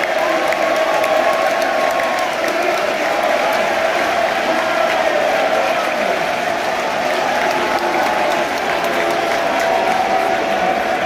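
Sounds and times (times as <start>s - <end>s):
crowd clapping: 0.0s - 11.0s
din of many voices: 0.0s - 11.0s.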